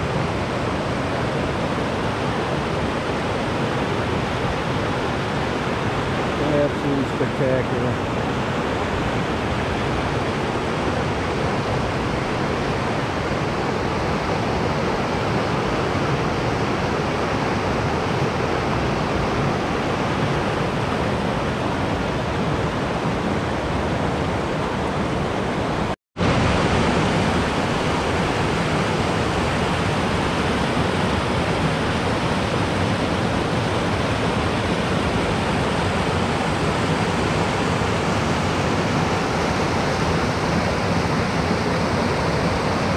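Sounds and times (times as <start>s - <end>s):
water rushing over rocks: 0.0s - 42.9s.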